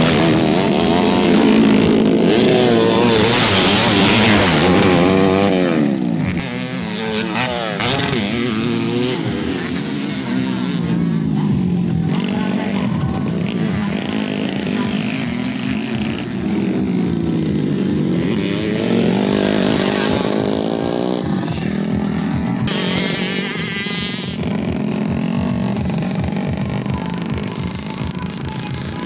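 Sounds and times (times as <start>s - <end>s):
high buzzing motorcycle engine: 0.0s - 29.0s
motorcycle engines revving: 0.0s - 29.0s.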